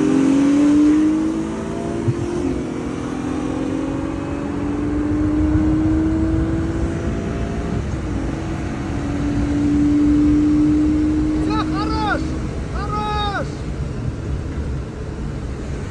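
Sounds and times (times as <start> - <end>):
race car engine at full throttle: 0.0 - 15.9
road and wind noise: 0.0 - 15.9.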